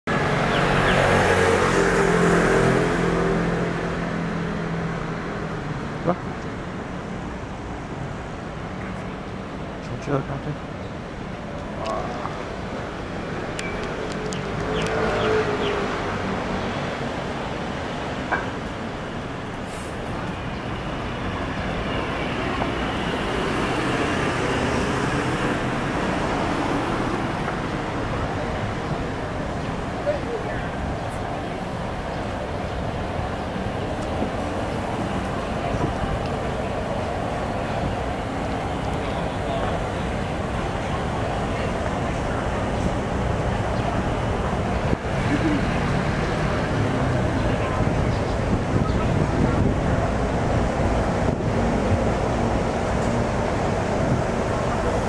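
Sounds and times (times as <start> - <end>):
passing vehicles: 0.1 - 55.0.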